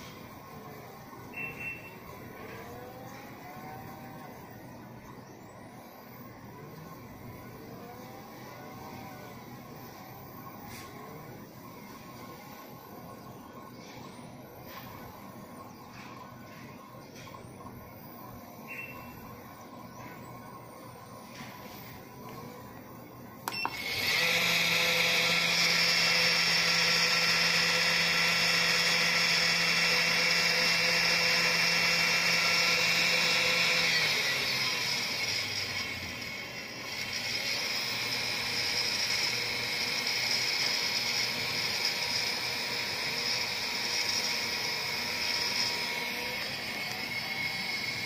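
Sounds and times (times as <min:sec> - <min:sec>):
spindle motor high whine: 0:00.0 - 0:48.0.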